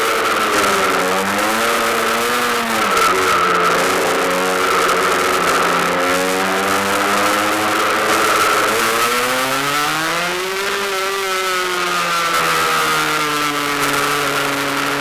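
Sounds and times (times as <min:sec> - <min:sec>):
two-stroke motorcycle engine: 0:00.0 - 0:15.0.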